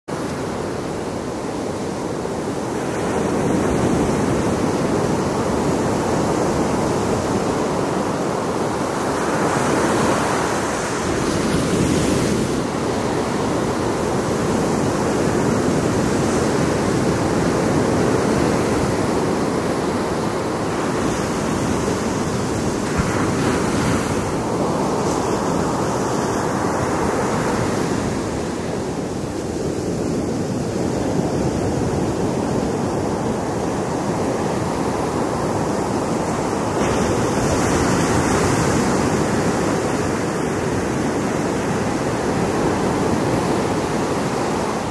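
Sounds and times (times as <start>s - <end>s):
ocean surf breaking on beach: 0.1s - 44.9s.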